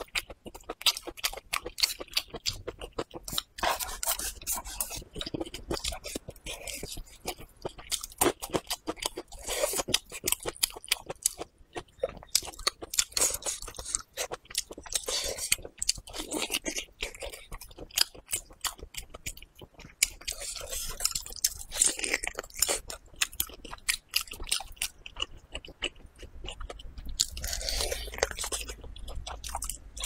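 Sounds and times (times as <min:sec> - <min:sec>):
person chewing and biting: 0:00.0 - 0:30.0.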